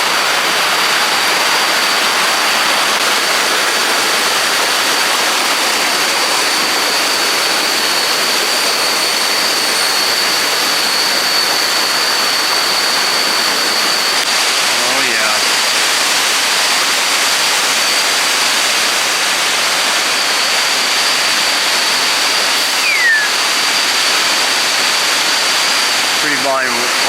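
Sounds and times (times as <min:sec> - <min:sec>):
thin high whine: 0:00.0 - 0:27.0
waterfall rushing over rocks: 0:00.0 - 0:27.0.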